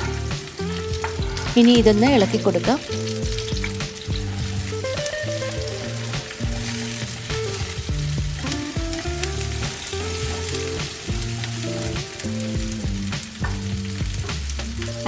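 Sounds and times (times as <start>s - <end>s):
soft background music: 0.0s - 15.0s
vegetables sizzling in oil: 0.0s - 15.0s.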